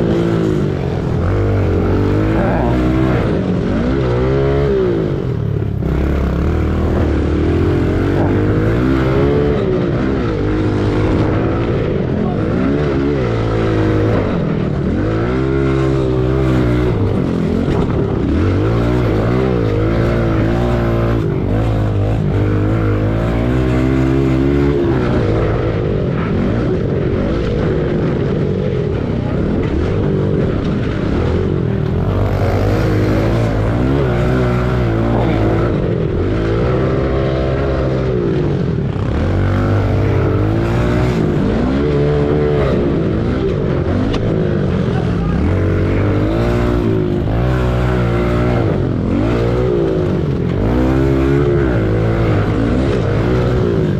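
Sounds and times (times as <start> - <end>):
pit bike engine revving: 0.0 - 53.9.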